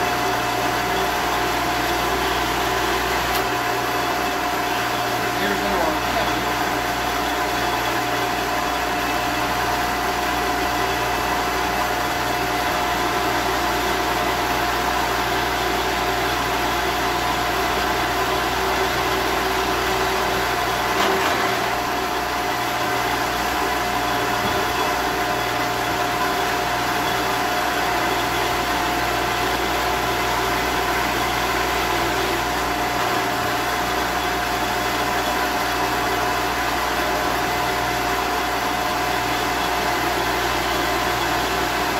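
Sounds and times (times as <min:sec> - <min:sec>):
drill press whining: 0:00.0 - 0:41.9.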